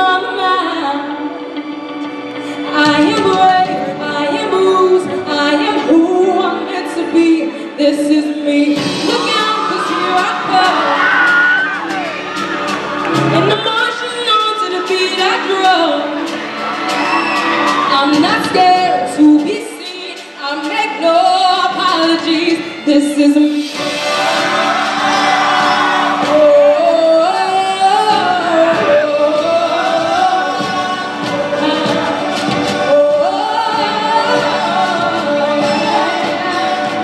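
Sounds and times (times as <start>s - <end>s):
loud backing music: 0.0s - 37.0s.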